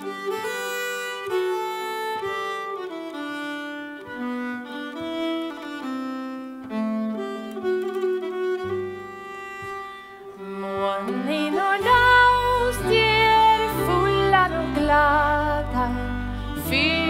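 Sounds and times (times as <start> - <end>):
fiddle playing held notes: 0.0 - 17.0.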